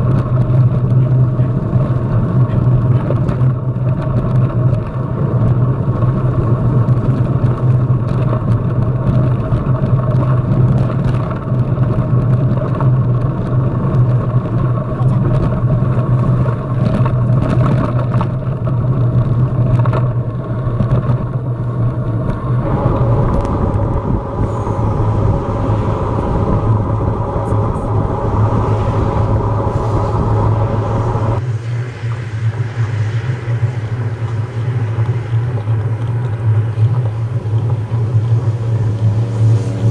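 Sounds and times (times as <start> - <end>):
bike tyre rumble on road: 0.0 - 39.9
wind rushing over microphone: 0.0 - 39.9.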